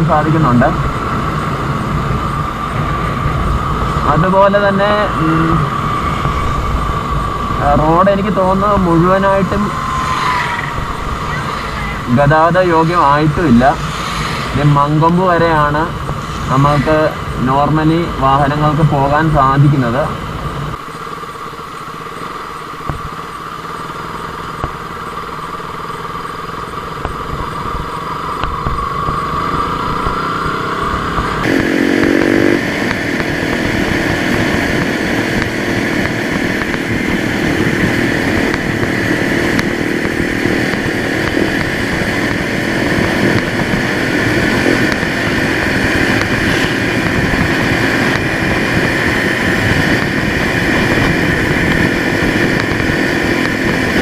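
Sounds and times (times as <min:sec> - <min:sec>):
wind noise on microphone: 0:00.0 - 0:20.8, 0:27.0 - 0:54.0
motorcycle engine running: 0:00.0 - 0:54.0.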